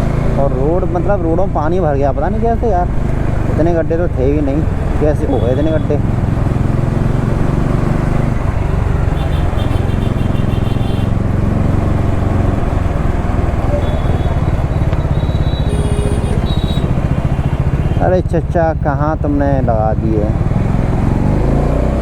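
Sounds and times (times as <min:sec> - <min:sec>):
motorcycle engine droning: 0:00.0 - 0:22.0
road and wind noise: 0:00.0 - 0:22.0.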